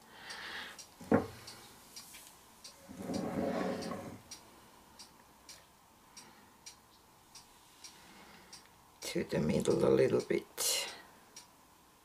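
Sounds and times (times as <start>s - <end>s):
faint light ticks: 0.2s - 11.6s.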